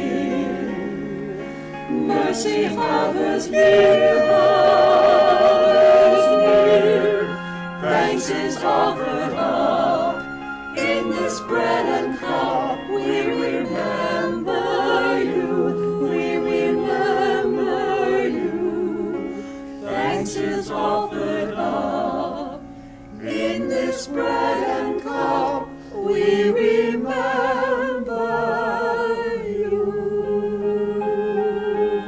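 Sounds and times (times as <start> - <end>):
mixed choir singing a cappella: 0.0 - 32.0.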